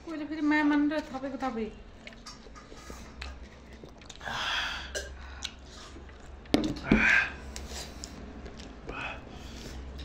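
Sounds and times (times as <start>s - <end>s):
person chewing food: 1.9s - 10.0s.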